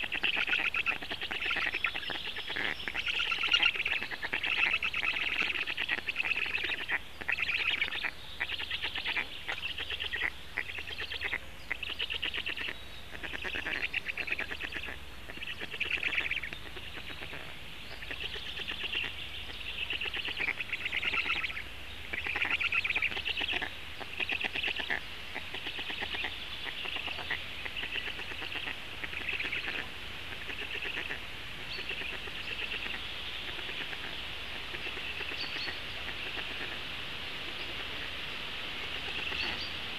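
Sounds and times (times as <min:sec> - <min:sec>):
stork chicks rasping calls: 0:00.0 - 0:38.2, 0:38.8 - 0:39.8.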